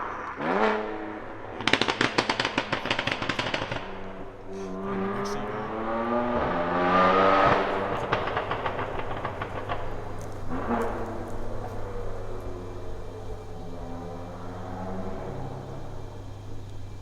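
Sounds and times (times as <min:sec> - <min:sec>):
exhaust crackles and pops: 0:00.0 - 0:17.0
car engine revving: 0:00.3 - 0:17.0.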